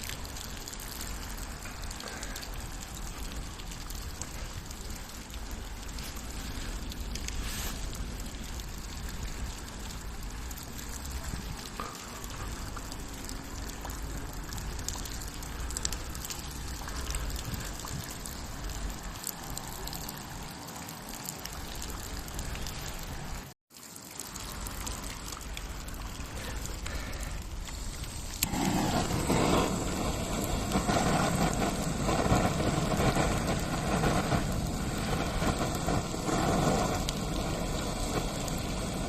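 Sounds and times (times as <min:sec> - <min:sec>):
steady rain falling: 0:00.0 - 0:39.0
water trickling and dripping: 0:00.0 - 0:39.0.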